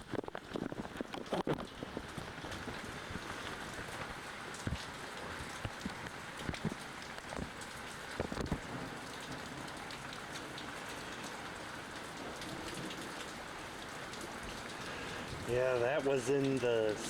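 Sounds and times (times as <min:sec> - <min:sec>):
steady rain: 0:00.0 - 0:17.0
drips ticking: 0:00.2 - 0:17.0.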